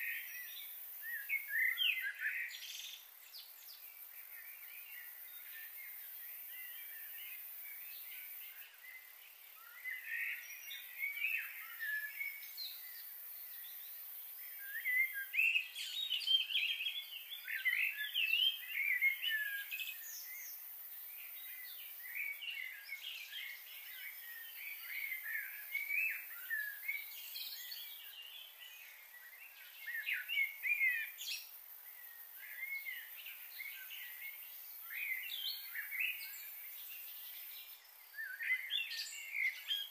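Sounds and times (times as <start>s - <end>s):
small birds chirping: 0.0s - 39.9s
steady high hiss: 0.0s - 39.9s.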